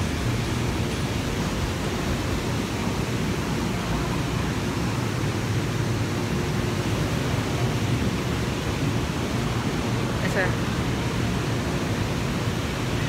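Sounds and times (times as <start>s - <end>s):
whitewater roaring: 0.0s - 13.0s.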